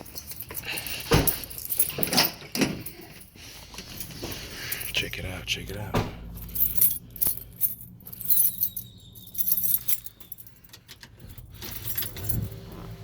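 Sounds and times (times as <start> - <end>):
keys jangling: 0.0 - 5.1, 6.2 - 13.0.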